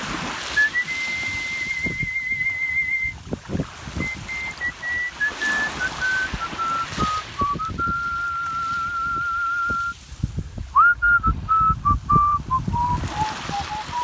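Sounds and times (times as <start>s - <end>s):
person whistling a melody: 0.5s - 3.2s, 3.9s - 10.0s, 10.8s - 14.0s.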